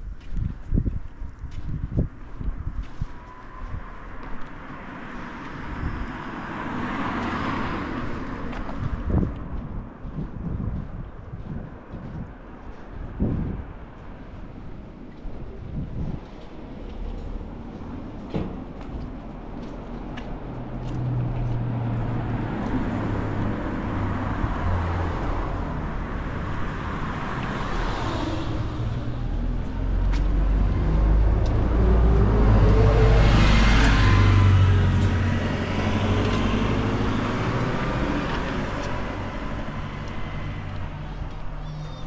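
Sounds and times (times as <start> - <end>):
vehicles passing close by: 0.0 - 42.0.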